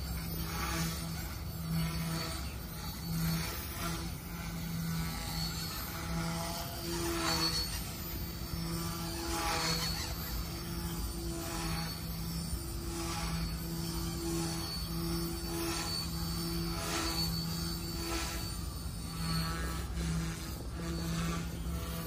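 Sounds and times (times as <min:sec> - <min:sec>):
helicopter rotor hum: 0:00.0 - 0:22.0
motor whine: 0:00.0 - 0:22.0.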